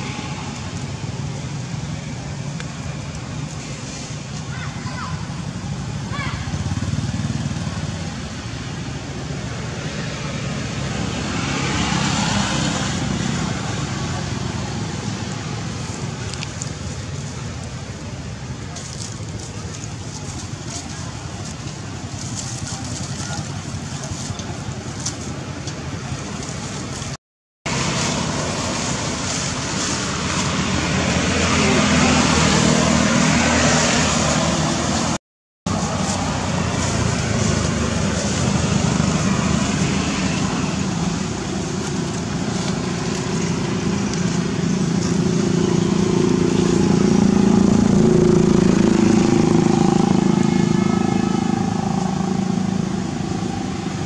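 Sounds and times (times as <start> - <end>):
outdoor background rumble: 0.0 - 54.0
rushing background noise: 0.0 - 54.0.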